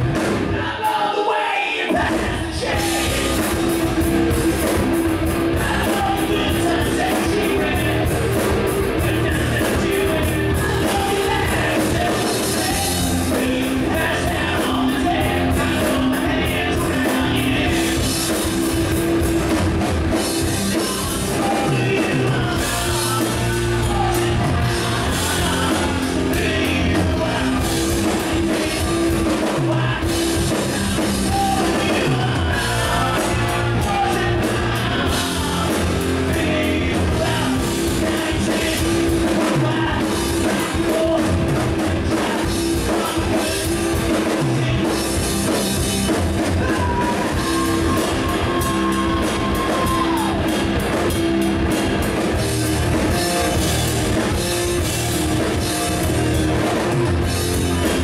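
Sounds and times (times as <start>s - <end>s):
drum kit beat: 0.0s - 1.2s, 1.9s - 58.0s
person singing: 0.5s - 18.6s, 20.4s - 51.1s
electric guitars: 1.9s - 58.0s.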